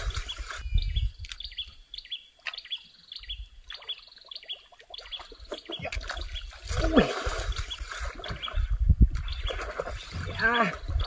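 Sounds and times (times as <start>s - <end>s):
bird chirping: 0.0s - 6.6s, 7.5s - 10.4s.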